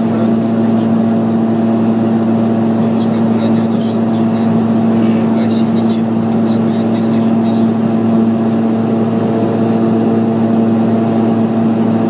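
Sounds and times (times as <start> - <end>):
aircraft engines droning in cabin: 0.0 - 12.0.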